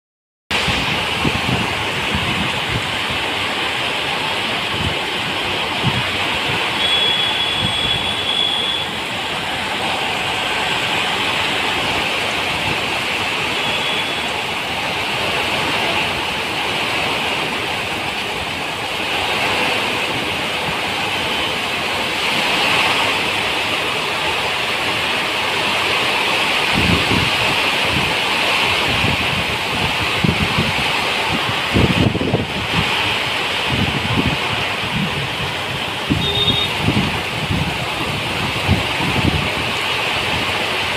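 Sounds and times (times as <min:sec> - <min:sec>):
heavy rain pouring on road: 0:00.5 - 0:40.9
passing traffic: 0:00.5 - 0:40.9.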